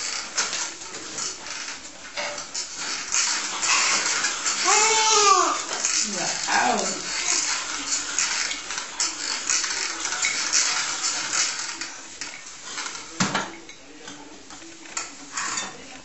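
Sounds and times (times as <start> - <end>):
plastic toy walker rattling: 0.0 - 13.2.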